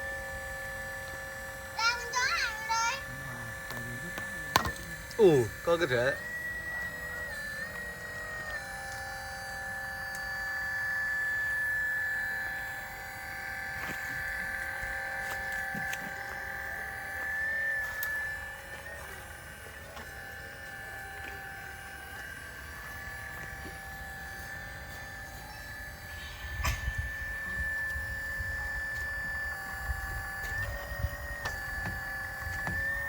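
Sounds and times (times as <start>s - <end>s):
toy excavator motor whining: 0.0s - 33.0s.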